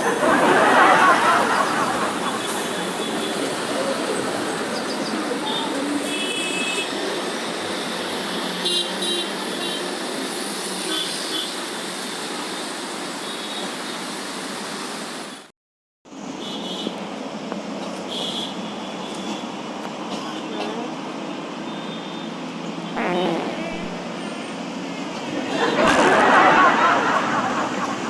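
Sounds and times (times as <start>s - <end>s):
street traffic: 0.0s - 15.4s, 16.1s - 28.0s.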